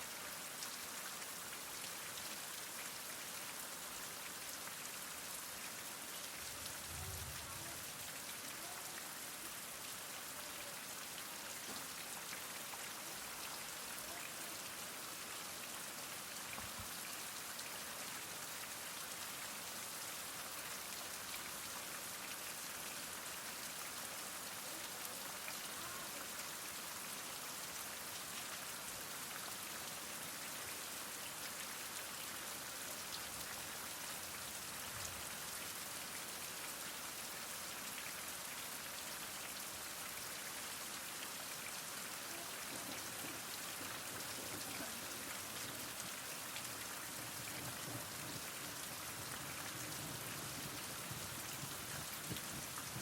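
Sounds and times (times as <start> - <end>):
heavy rain falling: 1.0 - 36.1, 39.2 - 53.0.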